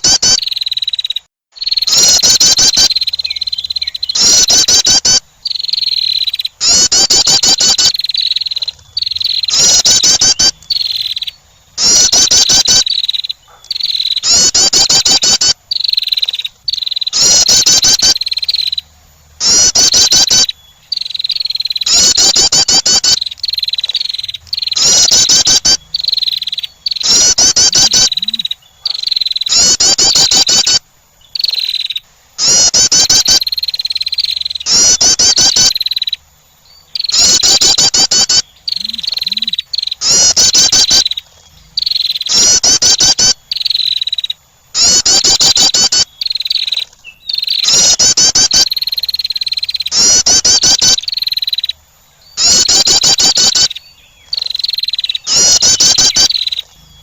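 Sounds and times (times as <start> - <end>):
wren chattering and trilling: 0.0 - 57.0.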